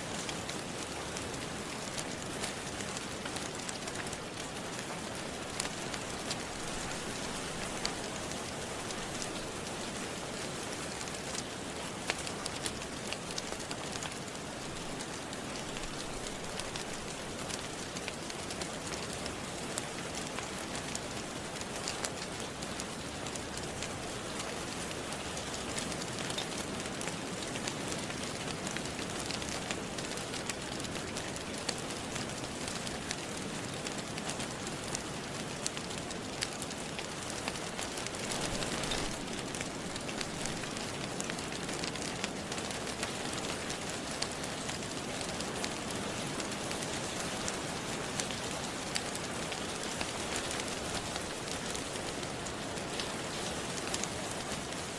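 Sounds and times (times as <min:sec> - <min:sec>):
steady rain: 0:00.0 - 0:54.9
wood fire crackling: 0:00.0 - 0:54.9.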